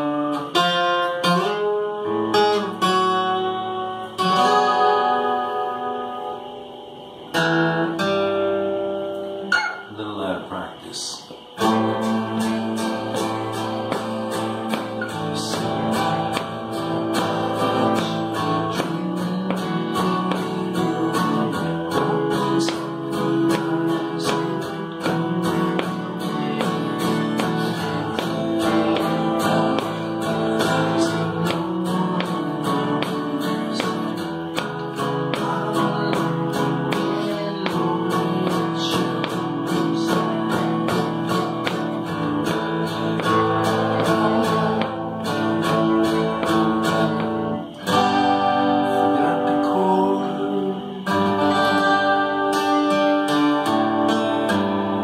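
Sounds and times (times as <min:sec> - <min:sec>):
guitar strumming chords: 0:00.0 - 0:55.0.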